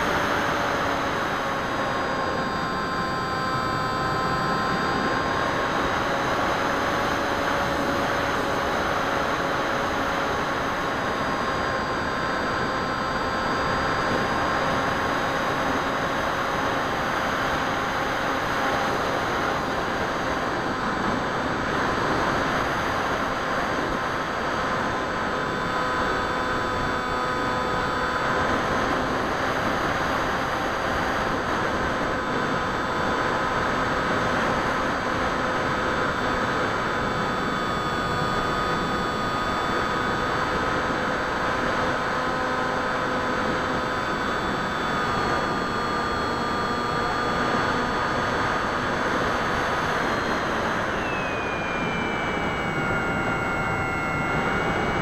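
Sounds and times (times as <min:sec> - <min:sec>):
model plane motor whining: 0:00.0 - 0:55.0.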